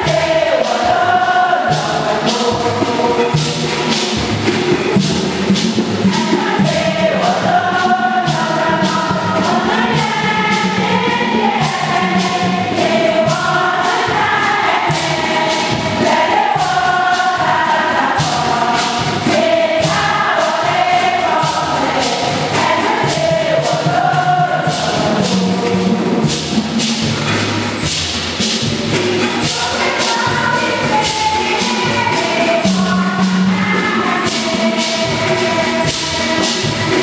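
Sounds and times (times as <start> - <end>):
congregation singing a hymn: 0.0 - 37.0
rhythmic percussion beat: 0.0 - 37.0.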